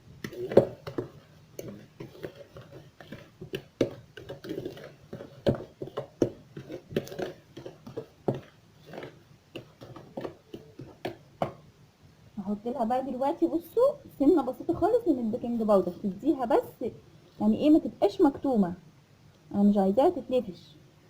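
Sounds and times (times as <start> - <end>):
semolina being mixed in a bowl: 0.0 - 18.8
faint steady hum: 0.0 - 21.0.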